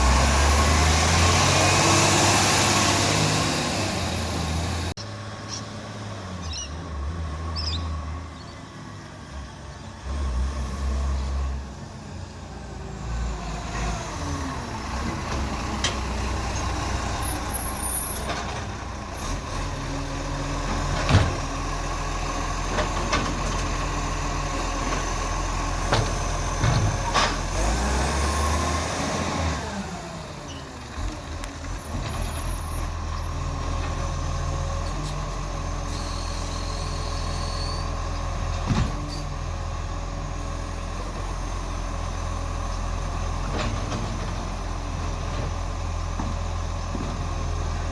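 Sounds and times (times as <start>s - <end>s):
garbage truck engine revving: 0.0s - 8.3s, 9.2s - 47.9s.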